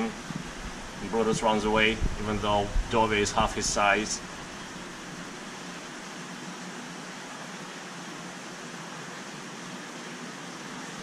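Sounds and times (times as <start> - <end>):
aquarium water hissing: 0.0 - 11.0.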